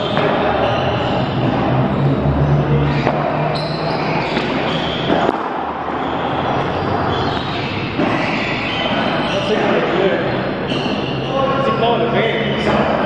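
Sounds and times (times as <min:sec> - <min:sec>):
ball strikes echoing: 0:00.0 - 0:13.0.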